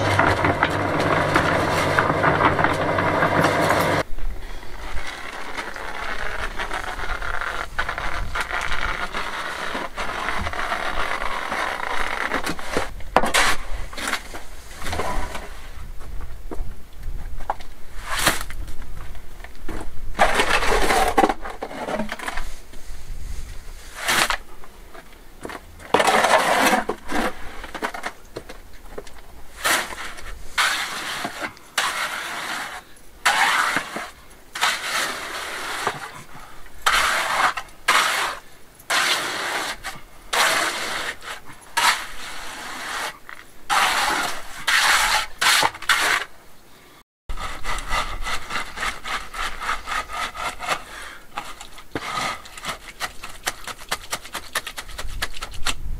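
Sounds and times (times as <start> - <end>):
trowel scraping wet concrete: 0.0 - 4.1, 4.7 - 15.6, 20.2 - 22.5, 23.8 - 24.4, 25.8 - 28.2, 29.5 - 46.3, 47.3 - 55.8.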